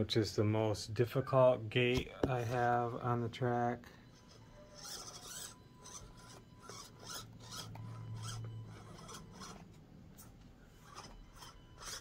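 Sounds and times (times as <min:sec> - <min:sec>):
faint motor hum: 0:00.0 - 0:12.0.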